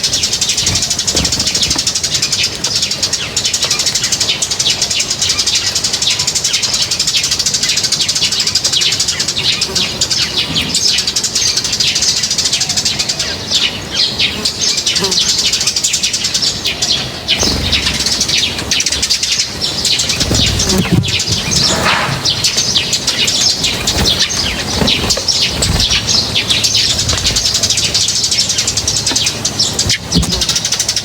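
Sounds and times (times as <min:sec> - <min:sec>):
flock of small birds chirping: 0:00.0 - 0:31.0.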